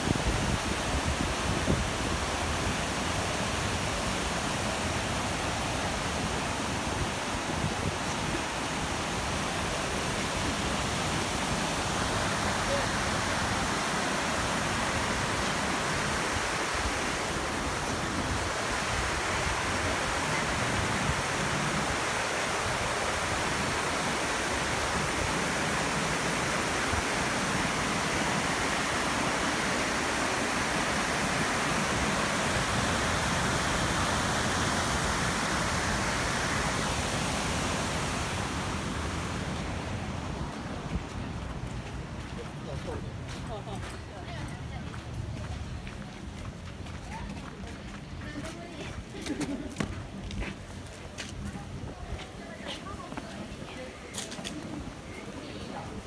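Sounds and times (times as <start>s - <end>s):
river rushing over rapids: 0.0s - 49.2s, 50.0s - 56.0s.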